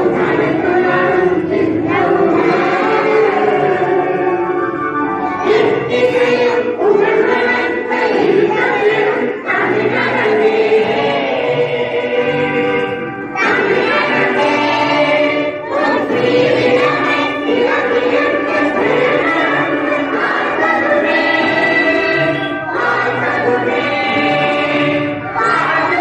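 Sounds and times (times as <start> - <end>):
children singing a prayer in unison: 0.0 - 4.2, 5.4 - 26.0.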